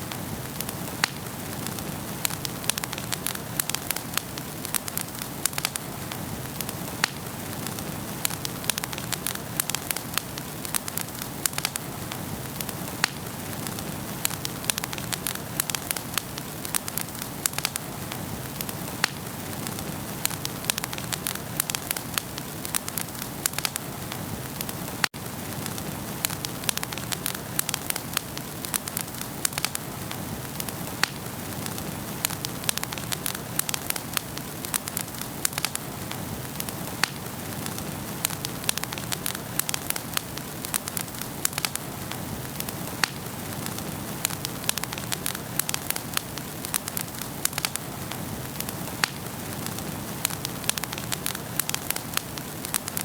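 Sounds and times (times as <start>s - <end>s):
wood fire crackling and hissing: 0.0s - 53.0s.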